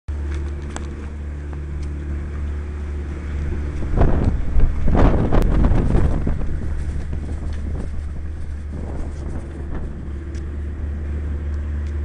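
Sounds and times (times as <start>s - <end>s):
low machine hum: 0.1s - 12.0s
rumbling noise on microphone: 0.1s - 12.0s.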